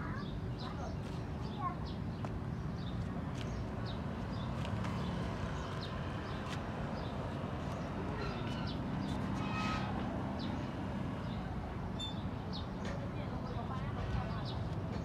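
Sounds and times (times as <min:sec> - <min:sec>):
small birds chirping: 0:00.0 - 0:15.0
traffic rumble: 0:00.0 - 0:15.0.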